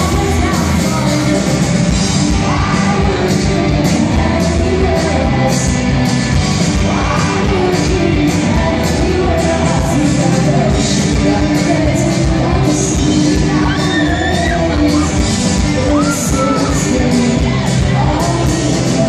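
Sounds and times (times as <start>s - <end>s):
live rock band playing: 0.0s - 19.0s
woman singing: 0.0s - 19.0s.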